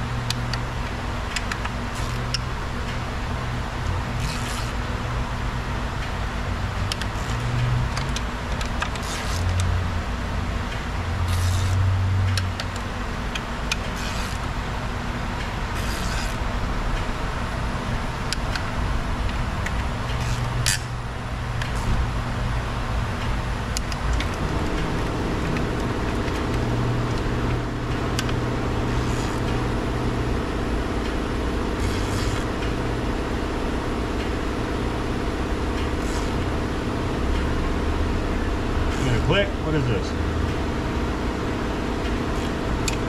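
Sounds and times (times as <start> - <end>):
steady drone: 0.0 - 43.0
steady low machine hum: 0.0 - 43.0.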